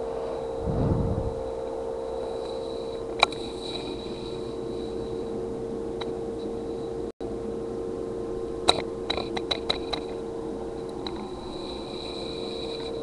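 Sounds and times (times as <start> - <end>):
electrical hum with thin whine: 0.0 - 13.0.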